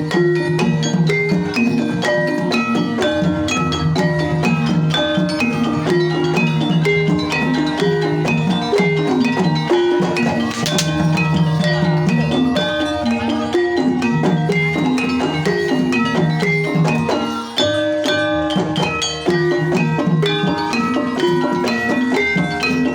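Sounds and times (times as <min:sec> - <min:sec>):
drum strokes: 0:00.0 - 0:22.9
gamelan mallet percussion: 0:00.0 - 0:22.9.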